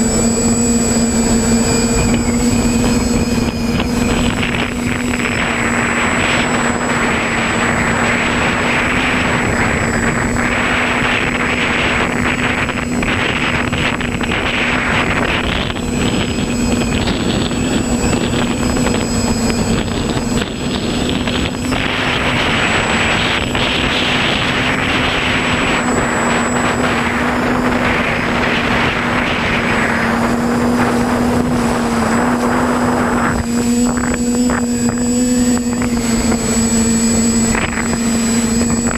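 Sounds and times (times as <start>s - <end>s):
drone propellers humming: 0.0s - 38.9s
wind rushing over microphone: 0.0s - 38.9s.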